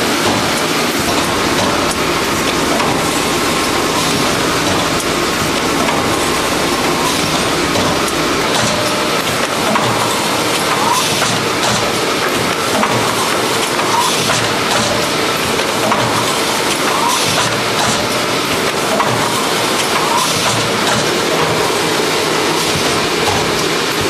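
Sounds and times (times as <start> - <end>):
machine mechanical clatter: 0.0 - 24.0.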